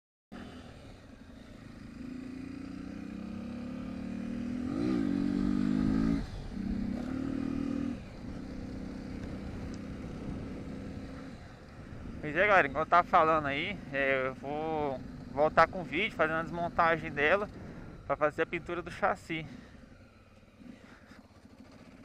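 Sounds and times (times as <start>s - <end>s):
motorcycle engine accelerating: 0.3s - 22.0s.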